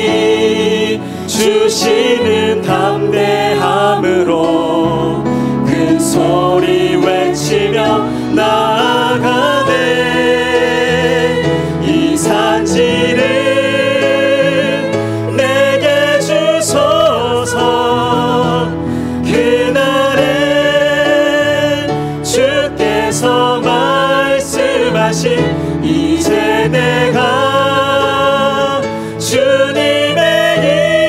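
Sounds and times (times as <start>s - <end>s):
men and women singing: 0.0s - 31.0s
musical accompaniment: 0.0s - 31.0s.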